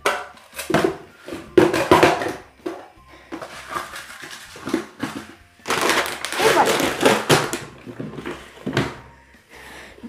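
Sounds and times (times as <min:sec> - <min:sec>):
objects knocking and rustling: 0:00.0 - 0:09.1.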